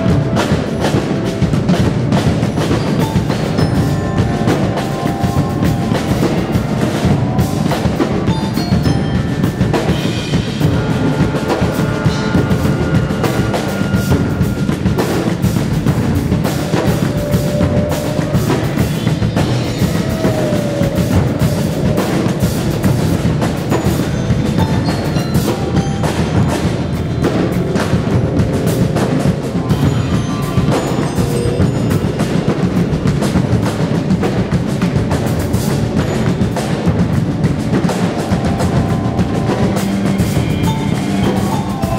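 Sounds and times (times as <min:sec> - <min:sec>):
held instrument notes: 0:00.0 - 0:41.9
percussion ensemble music: 0:00.0 - 0:41.9.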